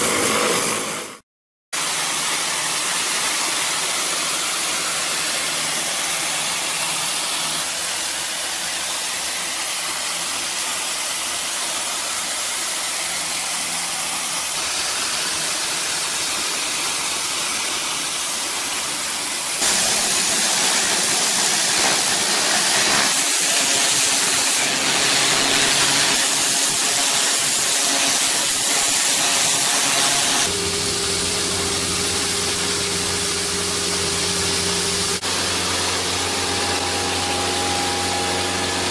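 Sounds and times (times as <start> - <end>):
pressure washer spraying: 1.8 - 38.9.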